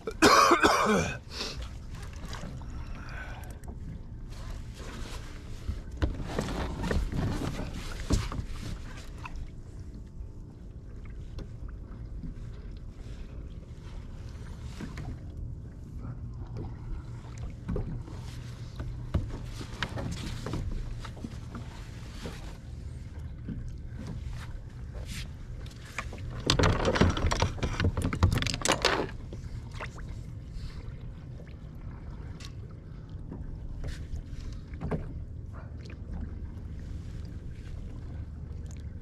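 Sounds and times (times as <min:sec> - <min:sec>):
water splashing around kayak: 0:00.0 - 0:39.0.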